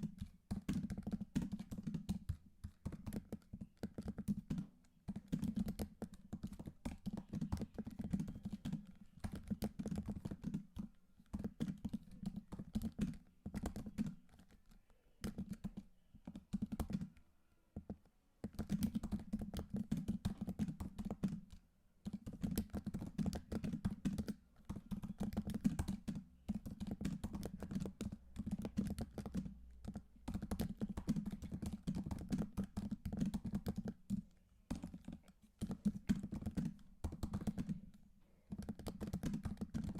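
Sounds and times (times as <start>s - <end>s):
keyboard typing: 0.0s - 17.2s, 17.8s - 39.9s.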